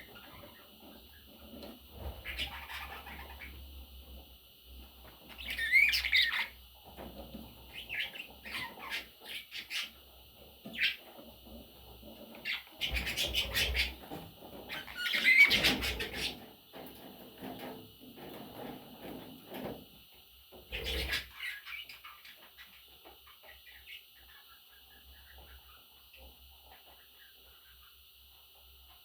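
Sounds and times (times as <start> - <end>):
budgerigars chirping and chattering: 0.0 - 16.5, 20.6 - 28.0.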